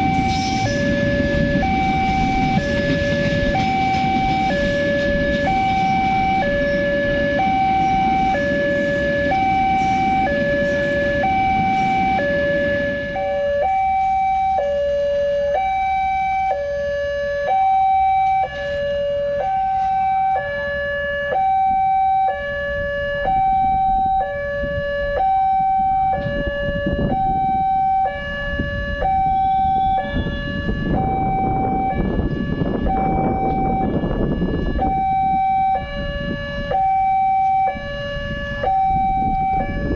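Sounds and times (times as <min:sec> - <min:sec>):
freight train rumble: 0:00.0 - 0:16.2, 0:22.7 - 0:39.9
level crossing two-tone alarm: 0:00.0 - 0:39.9.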